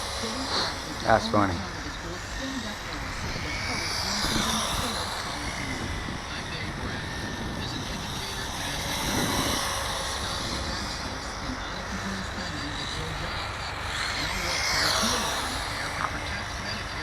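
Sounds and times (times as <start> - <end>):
rc car motor whine: 0.0 - 17.0.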